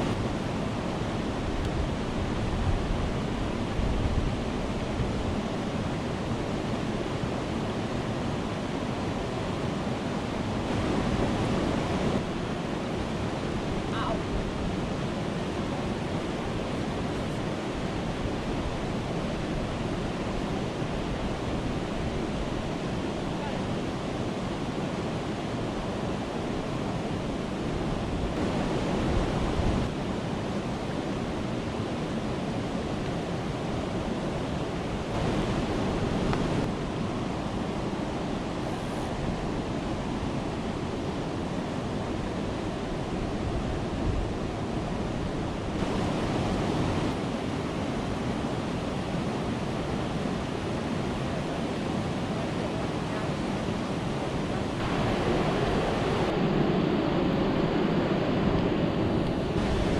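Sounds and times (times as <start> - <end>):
water rushing over a weir: 0.0 - 59.9
wind gusts on microphone: 0.0 - 59.9.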